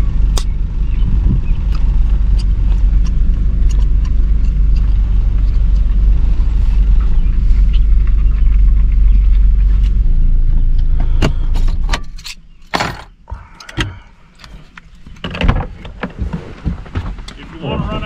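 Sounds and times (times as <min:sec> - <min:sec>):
van road and engine rumble: 0:00.0 - 0:18.0.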